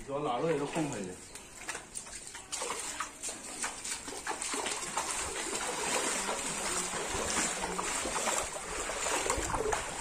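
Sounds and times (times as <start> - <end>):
feet wading through water: 0.2 - 10.0.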